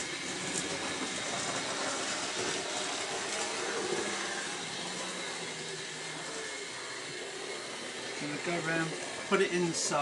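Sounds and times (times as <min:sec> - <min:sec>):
model train motor whirring: 0:00.0 - 0:10.0.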